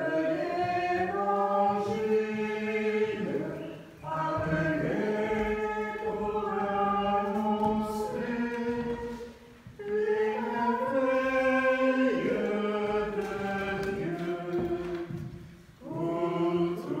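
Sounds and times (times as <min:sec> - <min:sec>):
voices singing a slow chant: 0:00.0 - 0:17.0.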